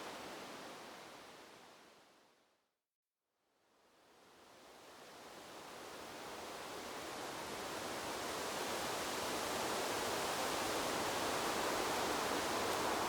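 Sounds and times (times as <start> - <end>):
wind rustling bamboo leaves: 0.0 - 2.2, 3.9 - 13.0.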